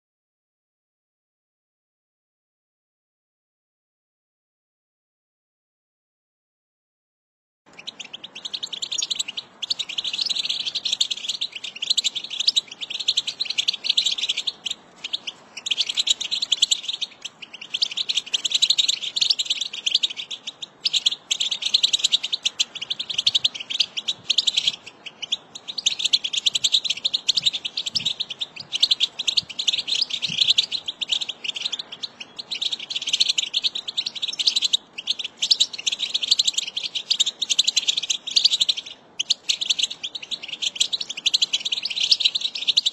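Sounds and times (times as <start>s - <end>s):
finch twittering song: 7.7s - 42.9s.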